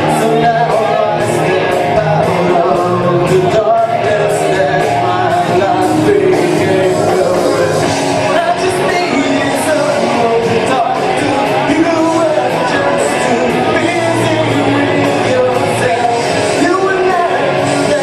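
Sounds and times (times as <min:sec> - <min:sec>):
singer with live rock band: 0:00.0 - 0:18.0.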